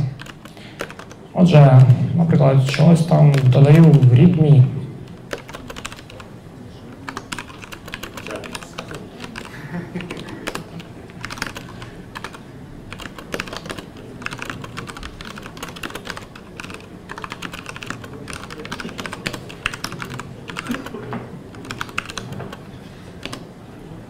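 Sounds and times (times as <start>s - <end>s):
laptop keyboard typing: 0.2s - 1.2s, 2.7s - 4.4s, 5.1s - 6.3s, 7.1s - 23.5s.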